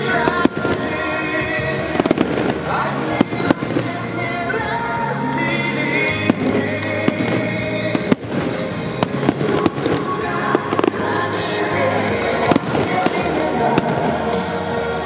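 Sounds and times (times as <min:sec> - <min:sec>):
fireworks bangs: 0:00.0 - 0:14.9
music playing: 0:00.0 - 0:15.0.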